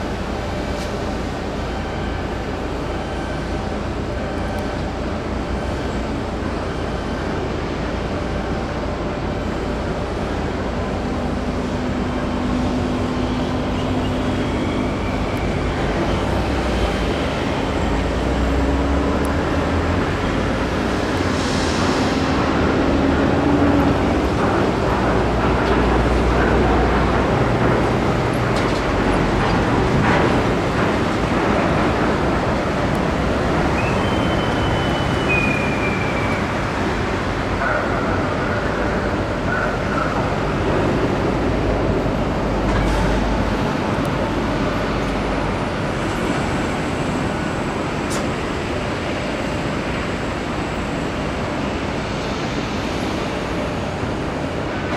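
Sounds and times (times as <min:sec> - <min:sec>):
machinery rumbling: 0:00.0 - 0:54.9.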